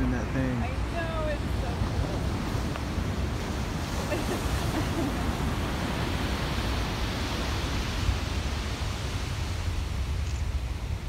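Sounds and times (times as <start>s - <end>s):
ocean surf on beach: 0.0s - 11.0s
wind buffeting microphone: 0.0s - 11.0s.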